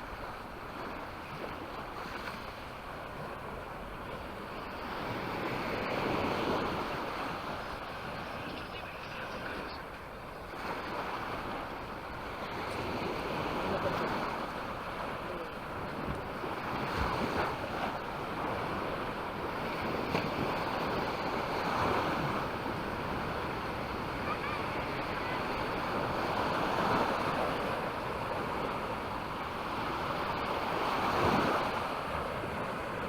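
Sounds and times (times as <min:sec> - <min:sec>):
waves washing onto sandy beach: 0:00.0 - 0:33.0.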